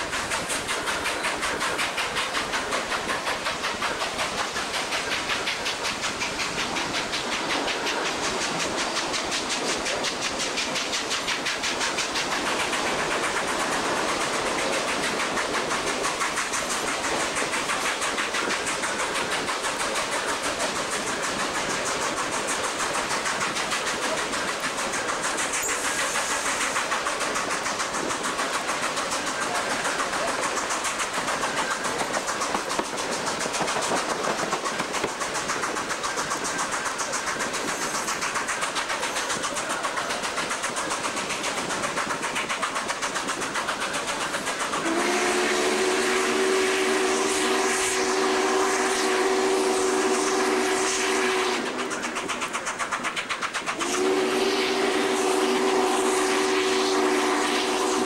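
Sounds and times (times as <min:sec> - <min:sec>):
steam locomotive running: 0:00.0 - 0:58.0.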